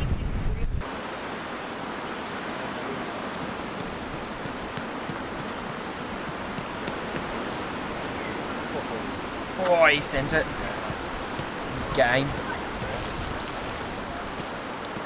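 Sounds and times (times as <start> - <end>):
wind buffeting microphone: 0.0 - 0.9, 3.6 - 15.0.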